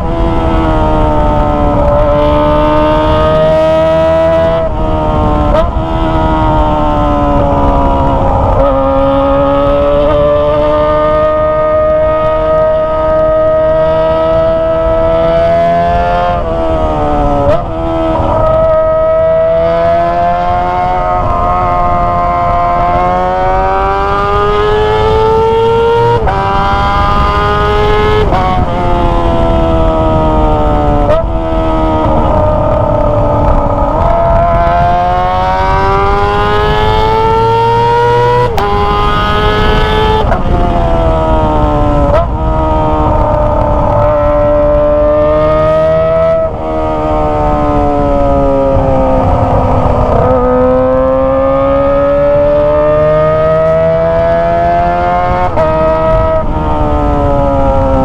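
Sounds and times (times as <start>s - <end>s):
motorcycle engine revving and shifting: 0.0s - 58.0s.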